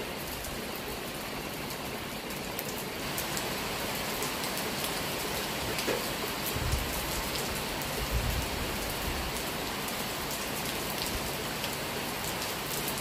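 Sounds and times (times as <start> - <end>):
rain on trees and grass: 0.0 - 13.0.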